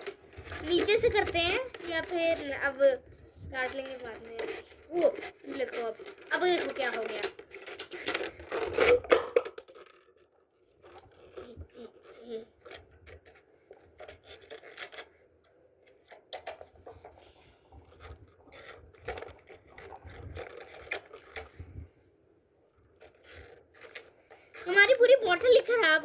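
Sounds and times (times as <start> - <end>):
plastic bottle crackling: 0.0 - 15.3, 15.9 - 21.9, 22.8 - 26.0.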